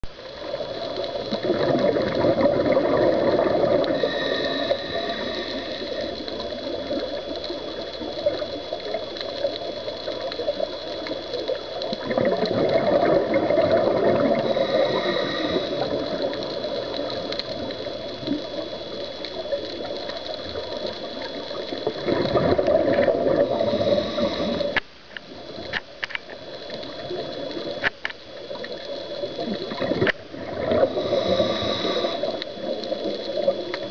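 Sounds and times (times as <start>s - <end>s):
faint high whine: 0.0s - 33.9s
muffled underwater rushing: 0.0s - 33.9s.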